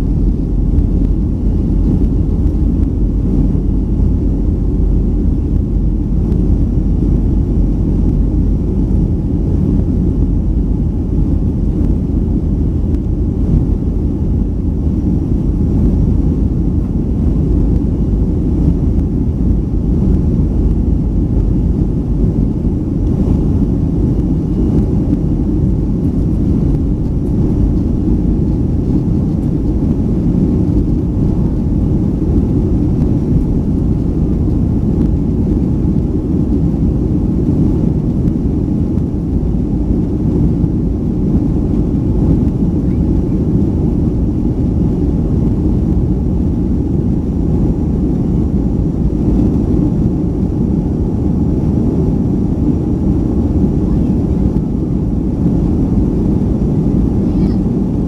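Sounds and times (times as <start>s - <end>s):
air rushing along fuselage: 0.0s - 58.0s
jet engines roaring: 0.0s - 58.0s.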